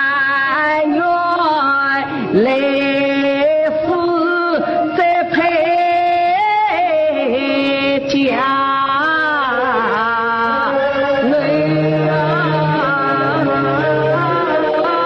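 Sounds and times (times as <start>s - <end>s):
instrumental accompaniment: 0.0s - 15.0s
woman singing opera: 0.0s - 15.0s.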